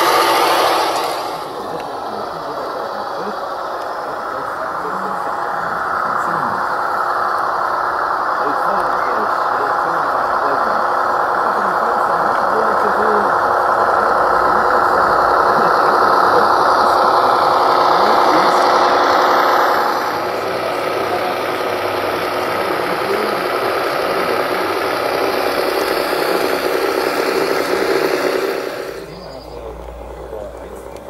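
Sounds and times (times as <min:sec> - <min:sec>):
diesel engine running with knocking beat: 0:00.0 - 0:31.0.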